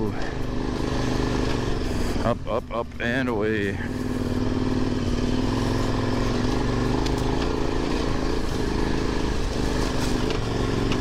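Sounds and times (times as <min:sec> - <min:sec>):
motorcycle engine under load: 0:00.0 - 0:11.0.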